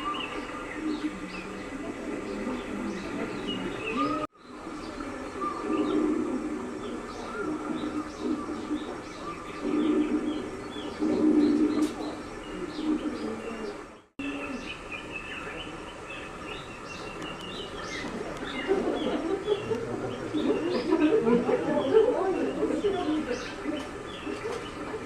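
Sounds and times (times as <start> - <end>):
murmur of distant voices: 0.0 - 25.0.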